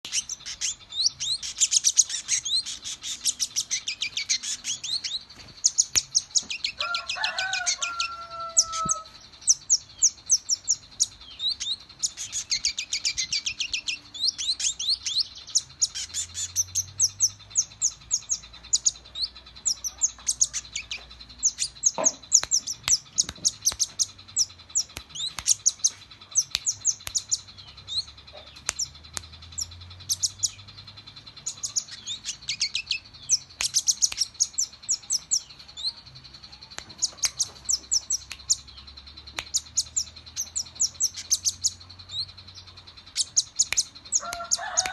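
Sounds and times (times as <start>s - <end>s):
songbird chirps and trills: 0.0s - 44.9s.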